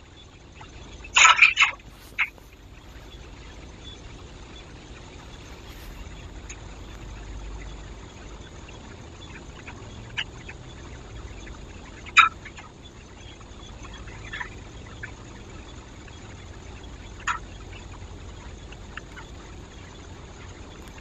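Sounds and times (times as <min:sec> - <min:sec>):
faint microphone hiss: 0:00.0 - 0:21.0.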